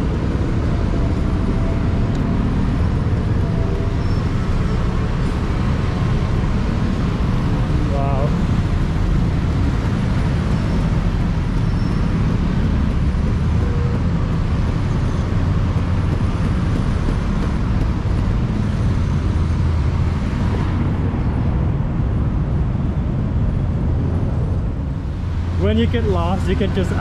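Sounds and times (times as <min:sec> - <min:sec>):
heavy city traffic rumble: 0:00.0 - 0:27.0.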